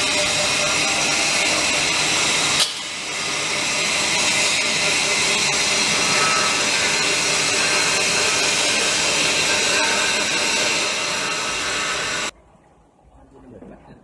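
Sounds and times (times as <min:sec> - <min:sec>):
forming machine hissing: 0:00.0 - 0:12.3.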